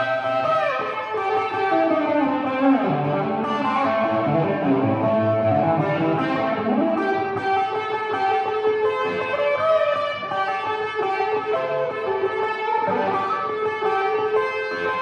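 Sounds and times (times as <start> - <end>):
electric guitar lead with bends: 0.0 - 15.0.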